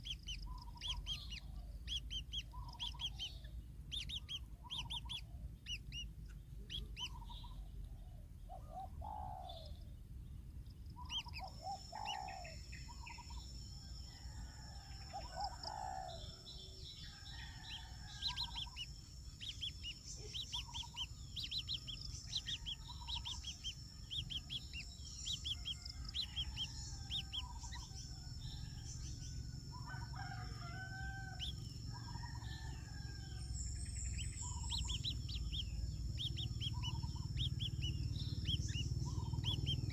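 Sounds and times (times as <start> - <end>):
birds chirping and calling: 0.0 - 10.0, 10.8 - 39.9
low background rumble: 0.0 - 39.9.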